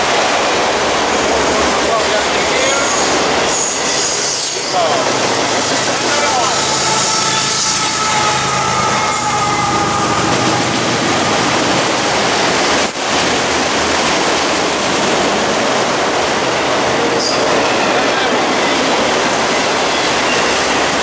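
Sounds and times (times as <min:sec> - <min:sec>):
diesel locomotive tones: 0:00.0 - 0:21.0
steel wheels rushing on rail: 0:00.0 - 0:21.0.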